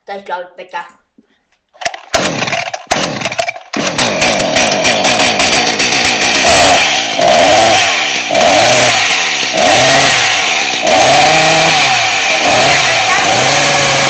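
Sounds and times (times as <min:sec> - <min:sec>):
engine revving: 0:01.8 - 0:14.0.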